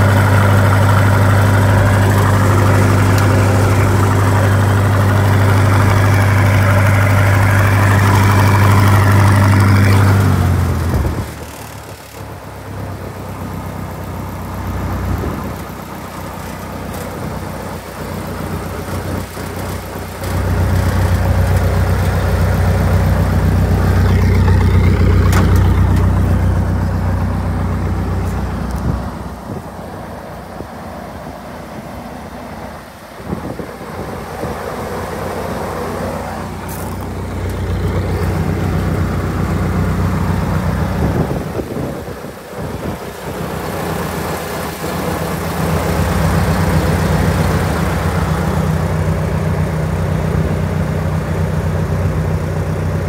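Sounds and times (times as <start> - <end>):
welder engine running: 0.0 - 53.0.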